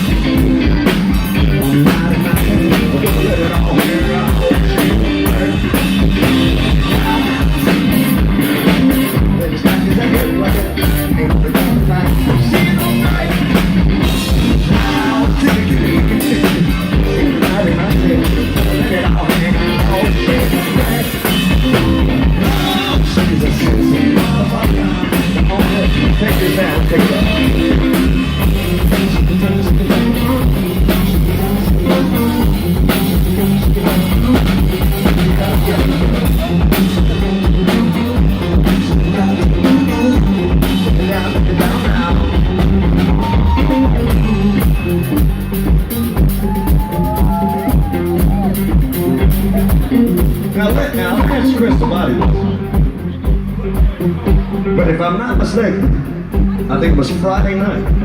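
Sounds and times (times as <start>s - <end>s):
drum kit beat: 0.0s - 58.0s
electric guitar: 0.0s - 58.0s
rock band playing: 0.0s - 58.0s.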